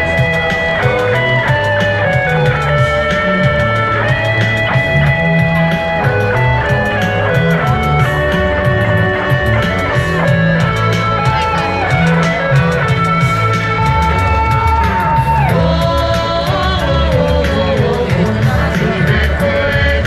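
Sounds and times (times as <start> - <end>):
bass: 0.0 - 20.0
lead guitar: 0.0 - 20.0
steady beat: 0.0 - 20.0.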